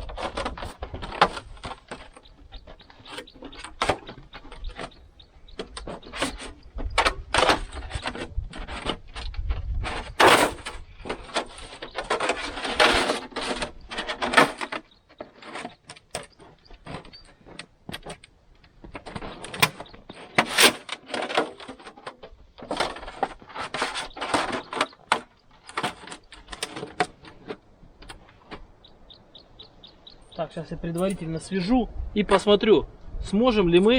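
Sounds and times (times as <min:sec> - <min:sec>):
sheet metal scraping and crinkling: 0:00.0 - 0:31.7.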